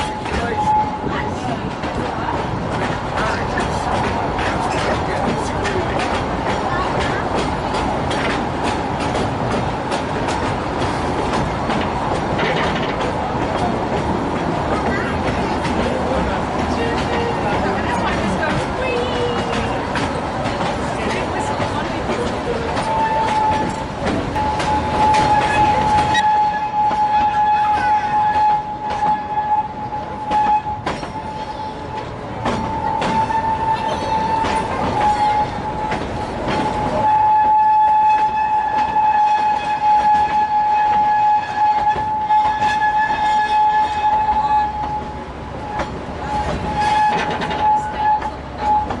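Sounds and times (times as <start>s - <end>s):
train wheels clattering: 0.0s - 49.0s.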